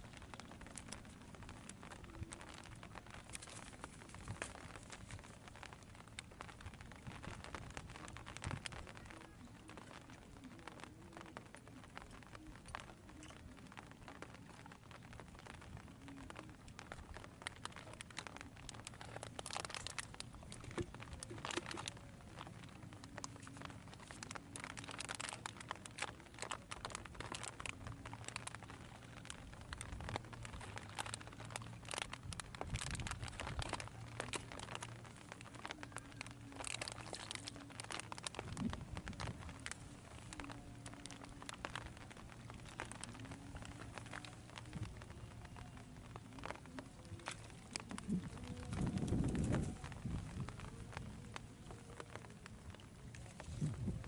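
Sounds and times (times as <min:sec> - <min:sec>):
low steady hum: 0:00.0 - 0:54.0
rustling and crinkling: 0:00.0 - 0:54.0.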